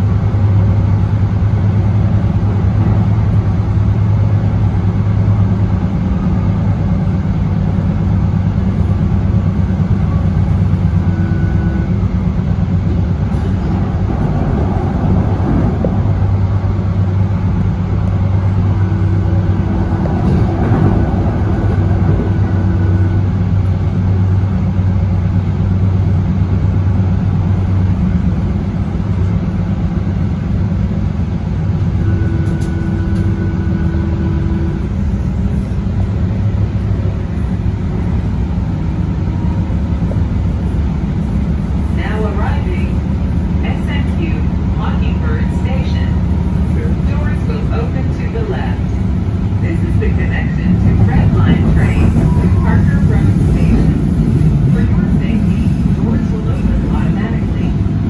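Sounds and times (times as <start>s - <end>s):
train hum and rumble: 0.0s - 58.0s.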